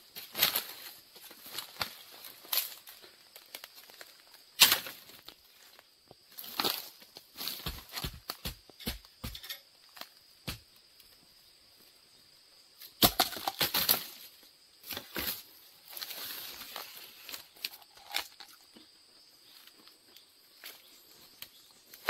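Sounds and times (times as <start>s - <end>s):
dry leaves and twigs crackling: 0.0s - 11.3s, 12.8s - 22.0s.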